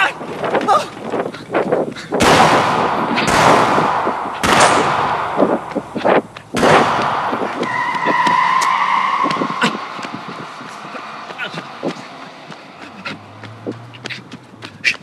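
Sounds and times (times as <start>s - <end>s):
loud bangs: 0.0s - 12.0s.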